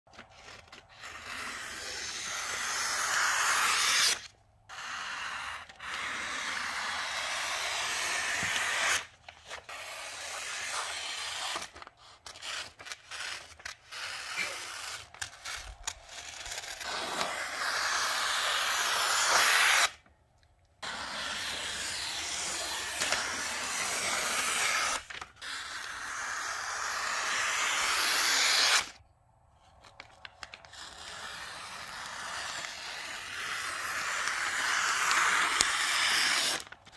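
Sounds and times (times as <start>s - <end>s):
scissors cutting wrapping paper: 0.1s - 20.0s, 20.8s - 28.9s, 29.7s - 36.9s.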